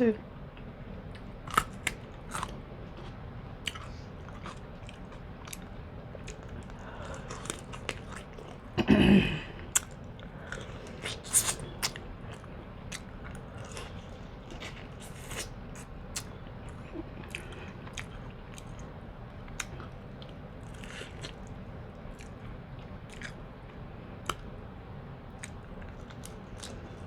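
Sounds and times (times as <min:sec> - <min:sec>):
biting and chewing: 0:01.1 - 0:08.8, 0:09.7 - 0:24.5, 0:25.4 - 0:27.0.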